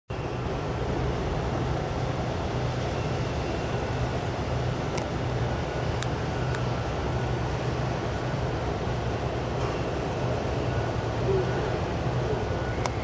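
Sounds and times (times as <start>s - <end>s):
diesel engines droning: 0.1s - 13.0s
rushing noise: 0.1s - 13.0s.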